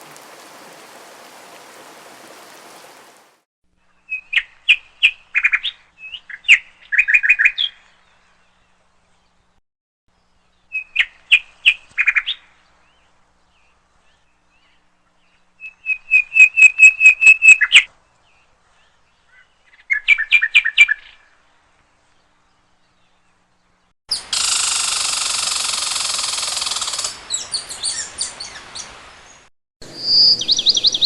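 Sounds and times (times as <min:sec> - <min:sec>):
songbird chirping: 0:03.8 - 0:31.0.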